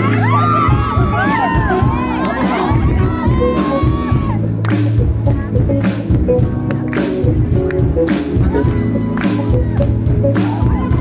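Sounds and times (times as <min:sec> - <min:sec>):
drums and cymbals: 0:00.0 - 0:11.0
live band playing: 0:00.0 - 0:11.0.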